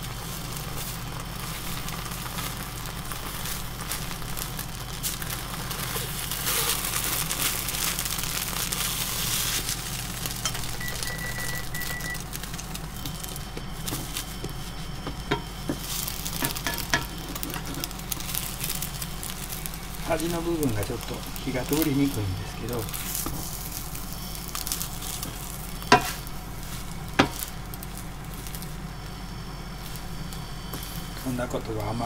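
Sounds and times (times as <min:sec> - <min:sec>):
egg sizzling in a frying pan: 0:00.0 - 0:32.0.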